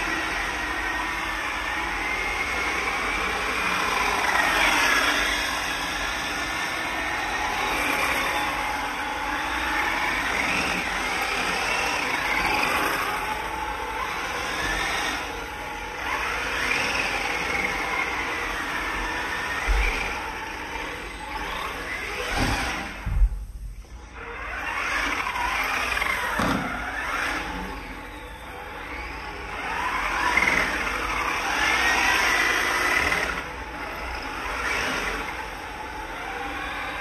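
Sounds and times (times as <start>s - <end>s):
remote-control cars whining: 0.0s - 37.0s.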